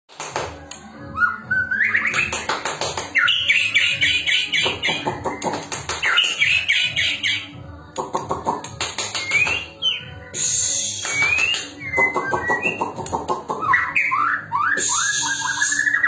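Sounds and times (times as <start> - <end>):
background music with steady beat: 0.1 - 16.0
songbird singing: 1.0 - 16.0.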